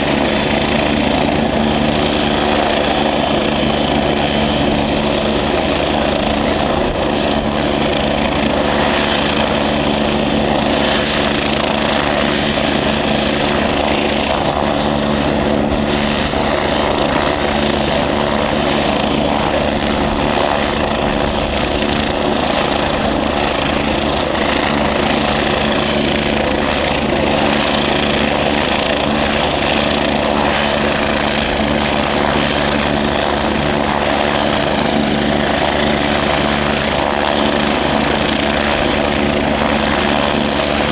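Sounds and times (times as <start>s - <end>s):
helicopter turbine and rotor: 0.0s - 40.9s.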